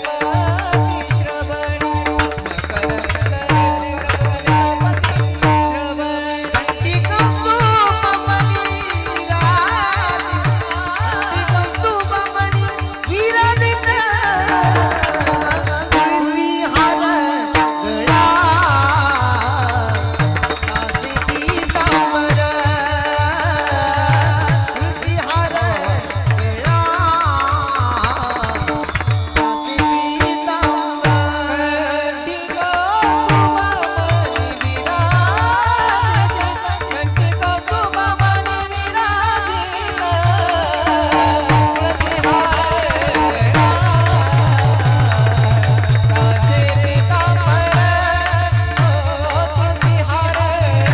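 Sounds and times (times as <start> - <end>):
high percussive ticks: 0.0 - 31.5, 32.4 - 50.9
person singing devotional song: 0.0 - 50.9.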